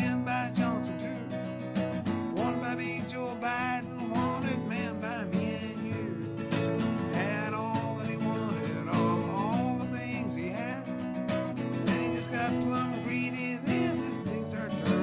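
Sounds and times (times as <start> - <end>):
man singing: 0.0 - 1.4, 2.0 - 15.0
acoustic guitar strumming: 0.0 - 15.0.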